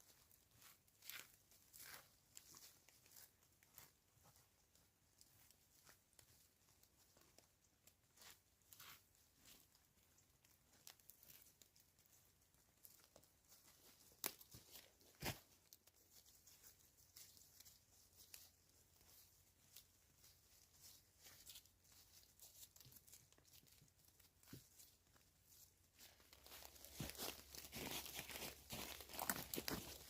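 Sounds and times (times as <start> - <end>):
faint small clicks and crackles: 0.1 - 30.0.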